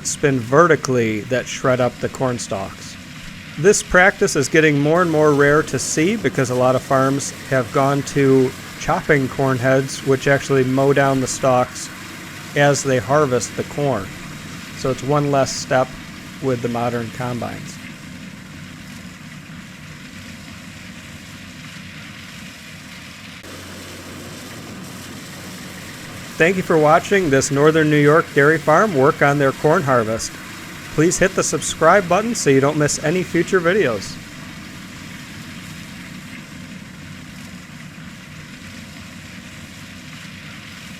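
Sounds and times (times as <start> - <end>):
flail mower shredding corn stalks: 0.0 - 40.9
tractor diesel engine under load: 0.0 - 40.9.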